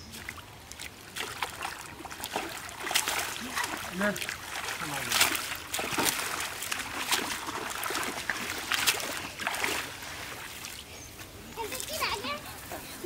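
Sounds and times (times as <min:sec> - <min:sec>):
water splashing off net: 0:00.1 - 0:10.8.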